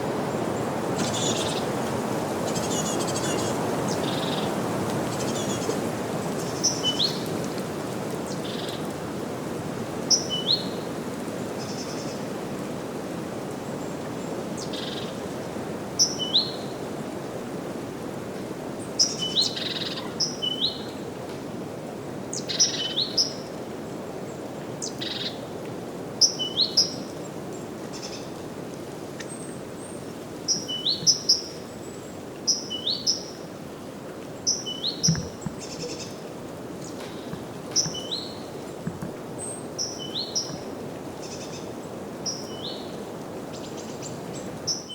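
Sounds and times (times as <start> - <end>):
wind through trees: 0.0 - 44.9.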